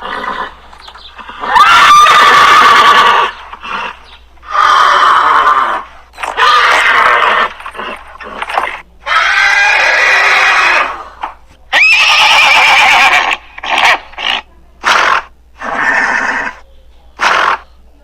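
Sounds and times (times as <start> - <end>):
horse whinnying: 0.0 - 0.6, 1.2 - 11.0, 11.7 - 16.6.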